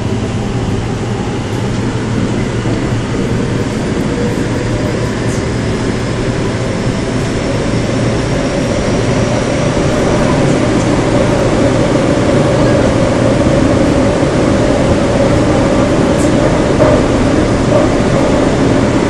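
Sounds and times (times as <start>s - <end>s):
train rumble inside passenger car: 0.0s - 19.0s.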